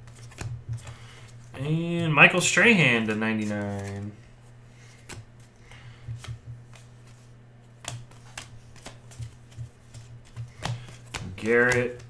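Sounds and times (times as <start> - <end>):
trading cards snapping and sliding: 0.0 - 1.4, 2.9 - 4.1, 4.8 - 12.0
steady low hum: 0.0 - 12.0.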